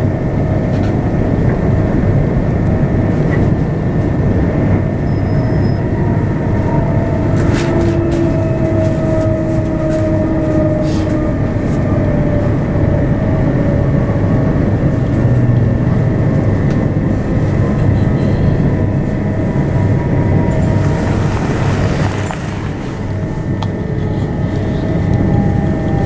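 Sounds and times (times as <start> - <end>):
electric train rumbling on track: 0.0 - 26.0
train whining tones: 0.0 - 26.0.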